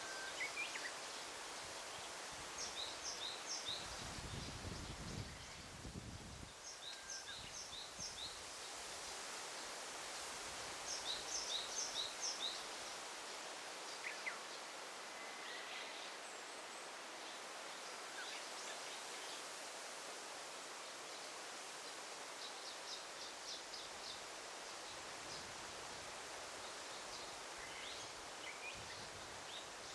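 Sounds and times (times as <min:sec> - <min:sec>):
steady rustling hiss: 0:00.0 - 0:29.9.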